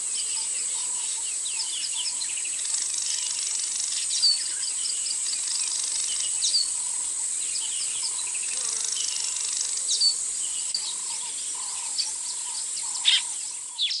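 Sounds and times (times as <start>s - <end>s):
bird calls: 0.0s - 14.0s
high insect trill: 0.0s - 14.0s.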